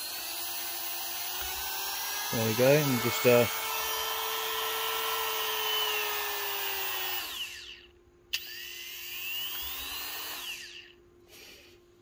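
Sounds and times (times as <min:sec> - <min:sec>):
rotary tool whining: 0:00.0 - 0:11.0.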